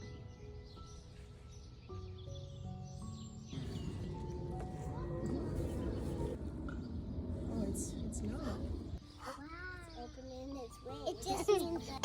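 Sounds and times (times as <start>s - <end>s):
outdoor background noise: 0.0s - 12.0s
soft background music: 0.0s - 12.0s.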